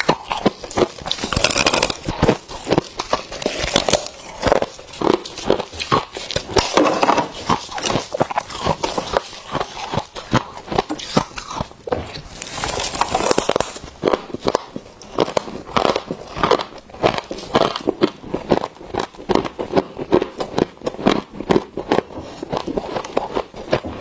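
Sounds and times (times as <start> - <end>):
frost being chewed: 0.0 - 24.0.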